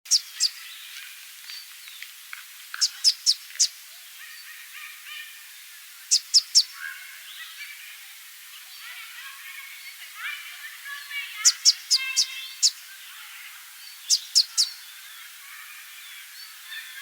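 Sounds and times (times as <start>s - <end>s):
other birds twittering: 0.1s - 17.0s.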